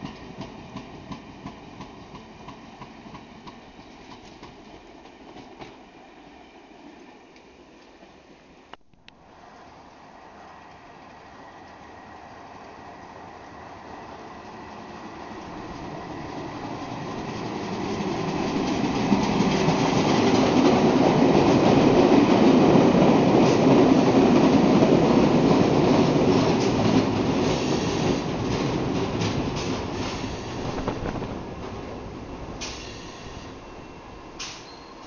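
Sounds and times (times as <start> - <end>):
train wheels rumbling and clattering: 0.0 - 5.9, 10.6 - 35.0.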